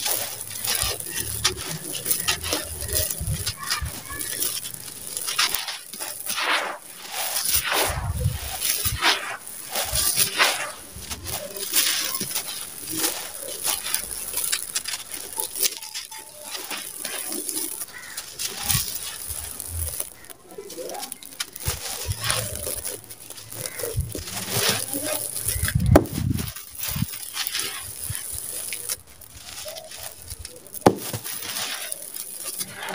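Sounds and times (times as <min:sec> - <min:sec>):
grit pouring onto floor: 0:00.0 - 0:32.9.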